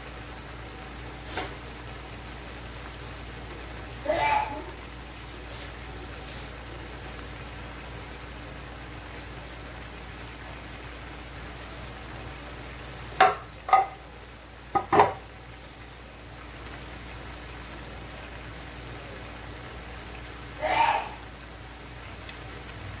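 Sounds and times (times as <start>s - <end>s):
food simmering in frying pan: 0.0s - 23.0s.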